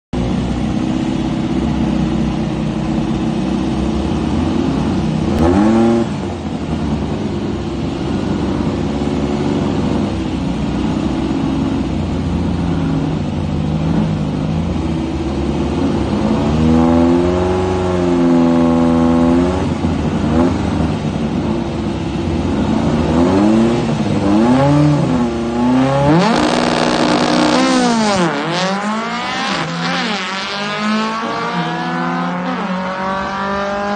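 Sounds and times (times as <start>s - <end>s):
car engine idling and revving: 0.1s - 33.9s
car accelerating away: 0.2s - 33.9s.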